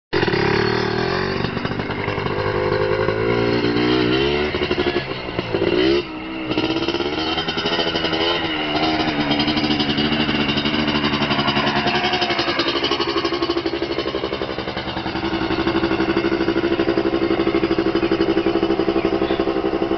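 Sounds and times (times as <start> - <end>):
quad engine revving: 0.2 - 19.9.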